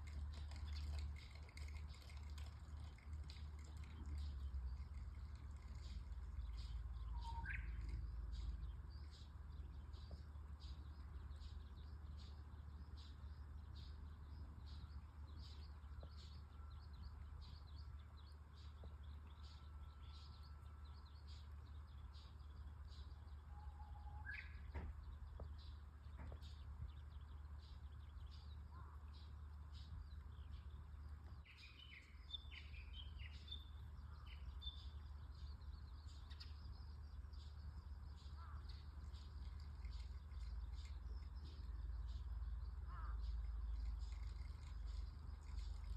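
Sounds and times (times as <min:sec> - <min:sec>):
steady low rumble: 0:00.0 - 0:23.8, 0:24.4 - 0:45.9
songbirds chirping: 0:00.0 - 0:45.9.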